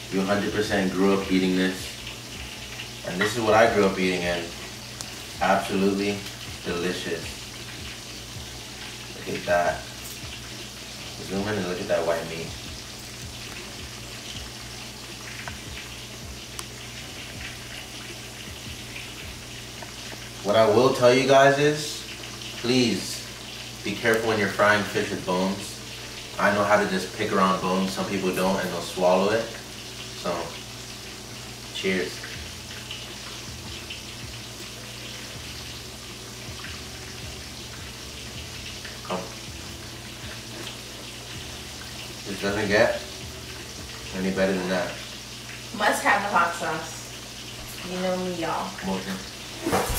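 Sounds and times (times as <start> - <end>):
fish sizzling in oil: 0.0 - 49.9.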